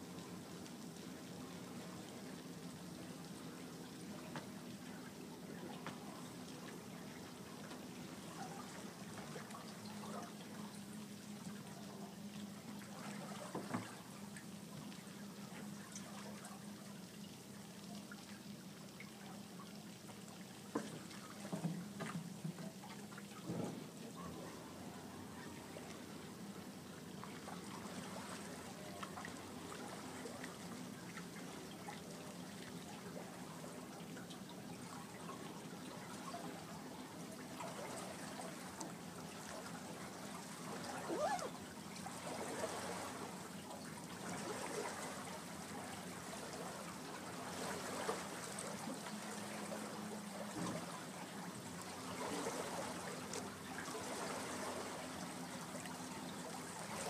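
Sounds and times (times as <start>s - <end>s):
low steady hum: 0.0s - 57.0s
water trickling and lapping: 0.0s - 57.0s.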